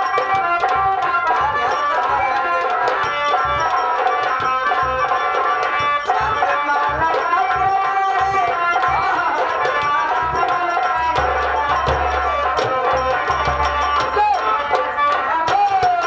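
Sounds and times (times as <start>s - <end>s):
person singing folk melody: 0.0s - 16.0s
steady drum beats: 0.0s - 16.0s.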